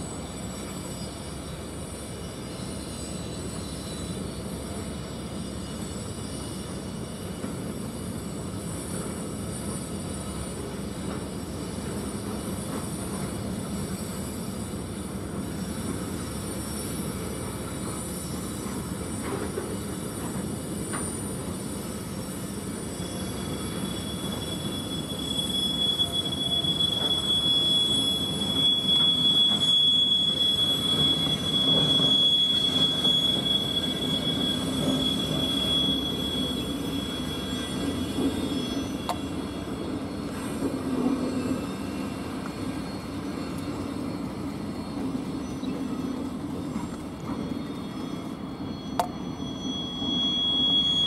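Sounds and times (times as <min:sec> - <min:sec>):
high steady wheel squeal: 0:00.0 - 0:51.0
low rumble of train: 0:00.0 - 0:51.0.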